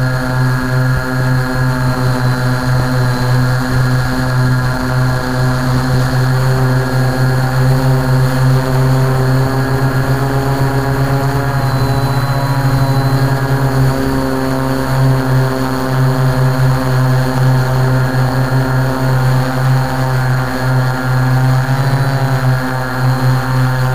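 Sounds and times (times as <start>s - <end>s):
drone propellers droning: 0.0s - 23.9s.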